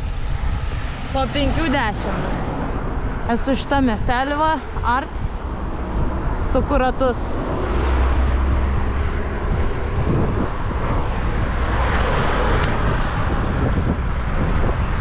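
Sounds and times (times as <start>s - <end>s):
motor traffic passing: 0.0s - 15.0s
wind on microphone: 0.0s - 15.0s.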